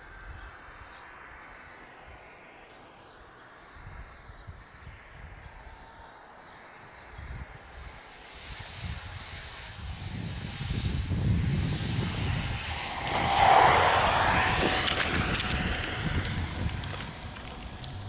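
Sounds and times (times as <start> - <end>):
model jet turbine whining: 1.4 - 18.0.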